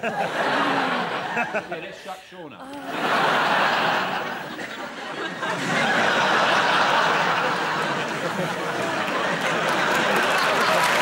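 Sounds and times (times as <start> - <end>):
studio audience laughing: 0.0 - 1.9, 2.9 - 11.0.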